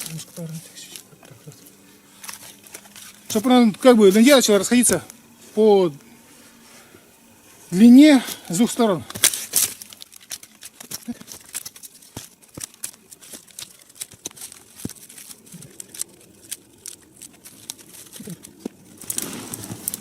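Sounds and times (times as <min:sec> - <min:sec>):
twigs snapping: 0:00.0 - 0:06.1, 0:07.6 - 0:20.0
twigs rustling: 0:00.0 - 0:20.0.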